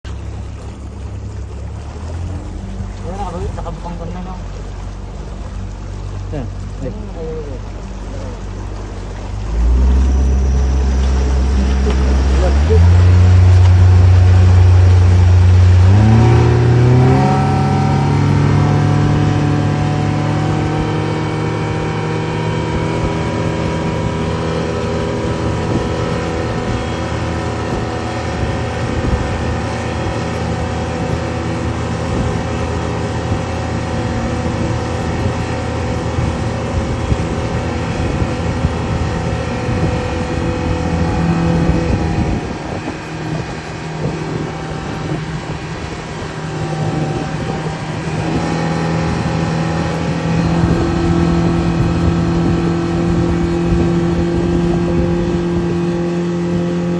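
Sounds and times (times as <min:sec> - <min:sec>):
engine speeding up: 0:00.0 - 0:56.9.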